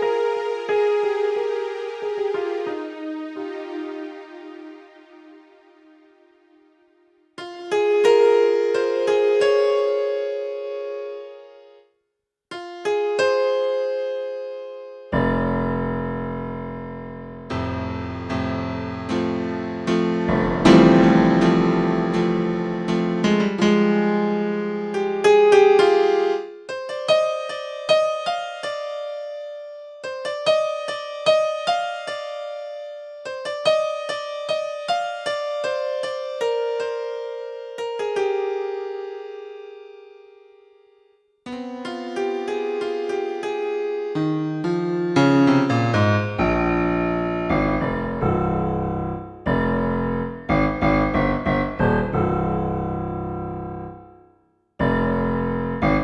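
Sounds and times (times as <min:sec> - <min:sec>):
keytar piano-like melody: 0:00.0 - 0:11.9, 0:12.5 - 0:56.0.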